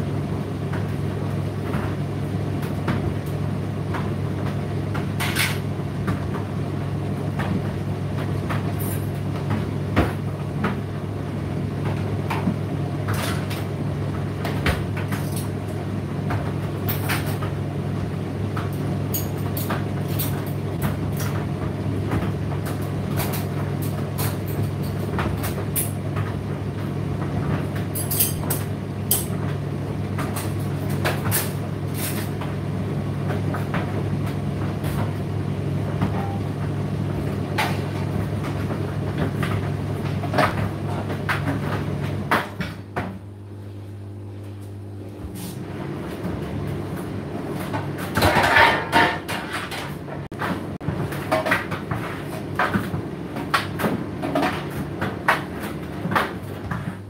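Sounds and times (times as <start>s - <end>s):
tumble dryer motor hum: 0.0s - 57.0s.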